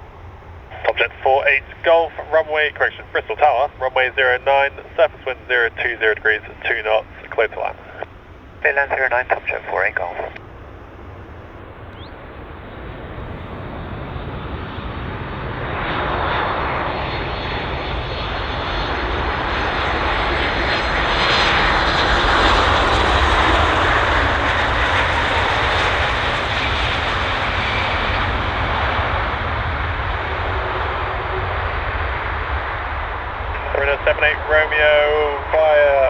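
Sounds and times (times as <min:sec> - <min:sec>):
jet airliner engines landing: 0:00.0 - 0:36.0.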